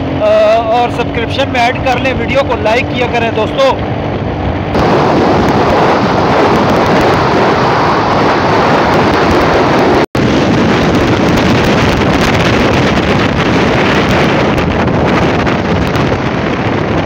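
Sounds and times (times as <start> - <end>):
motorcycle engine: 0.0 - 17.0
road noise: 0.0 - 17.0
wind rushing over microphone: 0.0 - 17.0.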